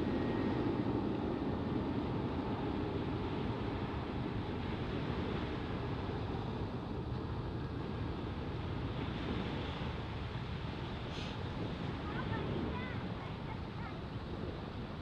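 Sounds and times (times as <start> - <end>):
small waves breaking on shore: 0.0 - 15.0
wind buffeting microphone: 0.0 - 15.0.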